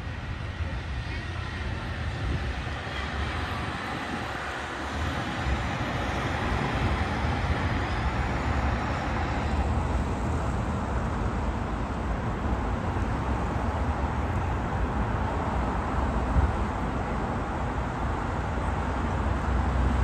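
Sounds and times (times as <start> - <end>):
car engines: 0.0 - 20.0
deep traffic rumble: 0.0 - 20.0.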